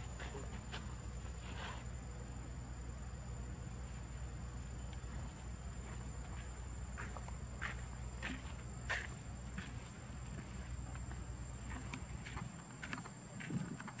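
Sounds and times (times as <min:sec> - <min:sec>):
insects trilling: 0:00.0 - 0:14.0
low steady rumble: 0:00.0 - 0:14.0.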